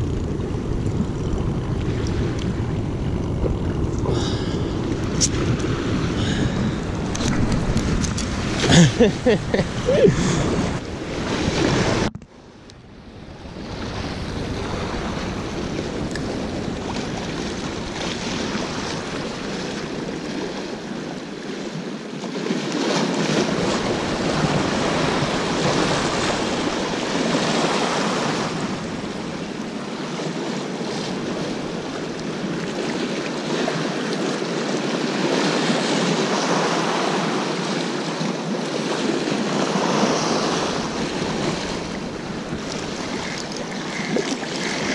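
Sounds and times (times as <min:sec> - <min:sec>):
surf washing against rocks: 0:00.0 - 0:44.9.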